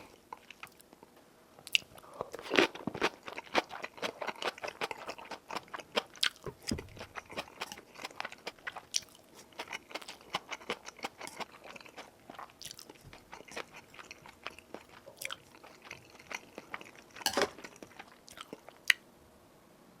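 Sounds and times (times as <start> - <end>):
person chewing crunchy food: 1.7 - 19.0.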